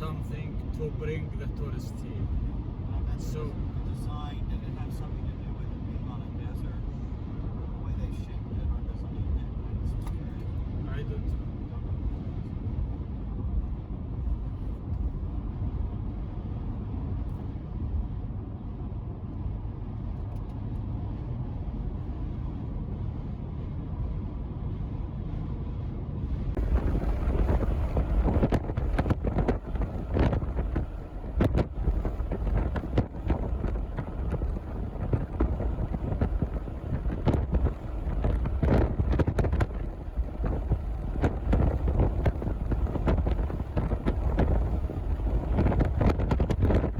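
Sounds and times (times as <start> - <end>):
moving vehicle rumble: 0.0 - 46.9
wind buffeting microphone: 0.0 - 46.9.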